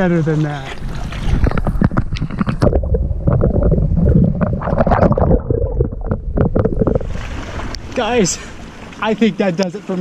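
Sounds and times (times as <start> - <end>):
water sloshing and gurgling: 0.0 - 10.0.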